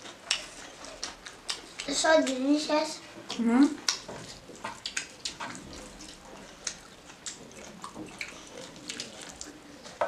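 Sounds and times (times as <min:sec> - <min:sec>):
mouth smacks from chewing: 0:00.0 - 0:02.4, 0:03.3 - 0:10.0.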